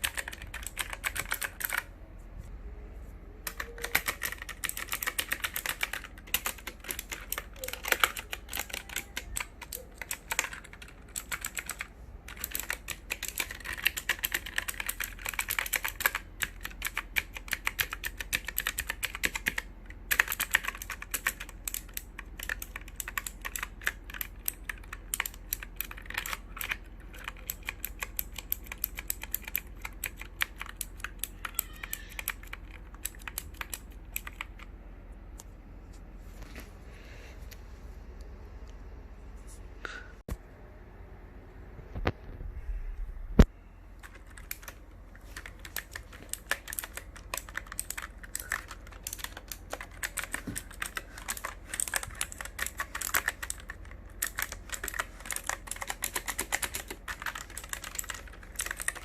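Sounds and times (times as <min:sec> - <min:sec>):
computer keyboard typing: 0:00.0 - 0:01.9, 0:03.4 - 0:34.7, 0:44.0 - 0:59.0.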